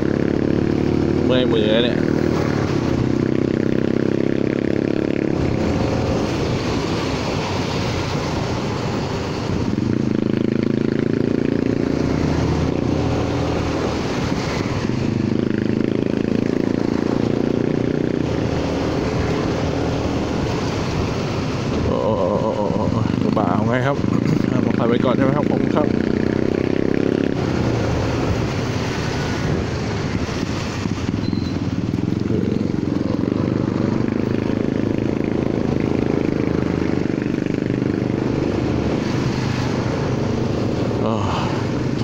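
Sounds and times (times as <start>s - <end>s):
scooter engine running: 0.0s - 42.0s
wind and wet-road noise: 0.0s - 42.0s.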